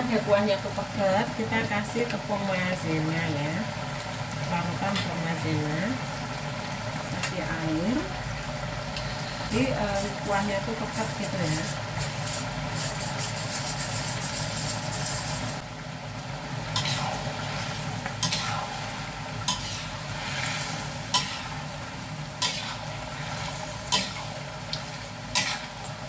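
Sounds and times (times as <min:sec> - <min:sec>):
sauce sizzling and bubbling: 0:00.0 - 0:26.0.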